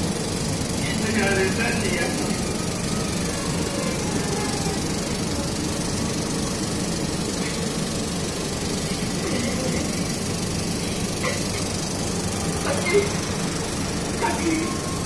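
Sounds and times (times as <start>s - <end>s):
film projector running: 0.0s - 15.0s.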